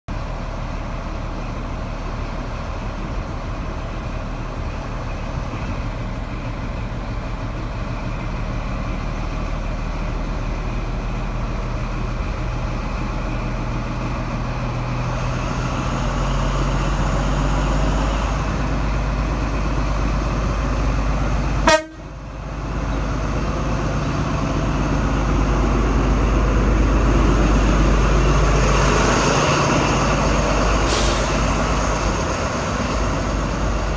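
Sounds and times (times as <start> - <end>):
diesel train engine running: 0.1 - 33.9.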